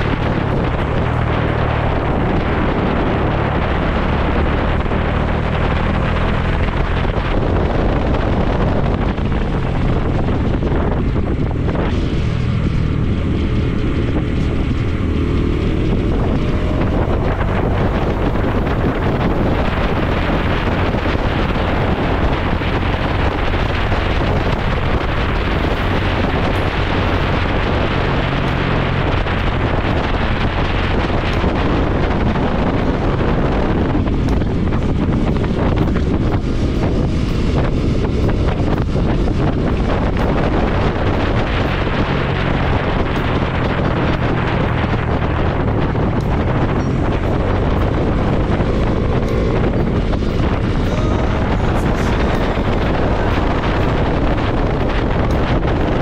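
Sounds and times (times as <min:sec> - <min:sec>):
motorcycle engine cruising: 0:00.0 - 0:56.0
wind noise on microphone: 0:00.0 - 0:56.0.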